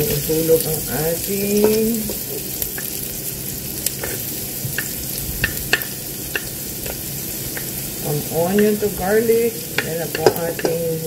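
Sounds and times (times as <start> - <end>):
oil popping and crackling: 0.0 - 11.0
onion sizzling in hot oil: 0.0 - 11.0.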